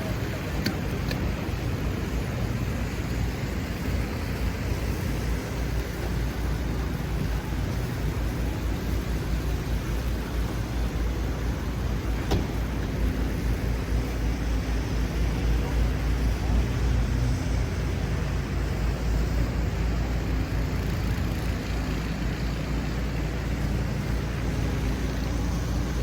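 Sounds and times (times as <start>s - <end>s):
low rumble of street traffic: 0.0s - 26.0s.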